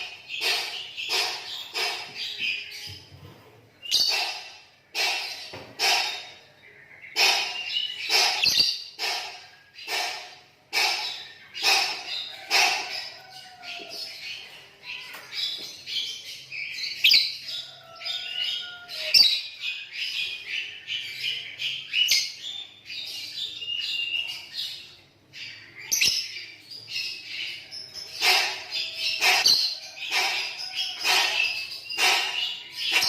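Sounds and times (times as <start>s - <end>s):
lovebirds chattering: 0.0s - 33.0s.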